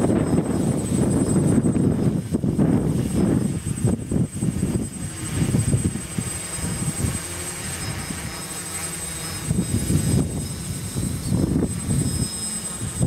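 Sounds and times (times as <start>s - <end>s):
drone motors whirring: 0.0s - 13.0s
thin high whine: 0.0s - 13.0s
wind buffeting microphone: 0.0s - 13.0s.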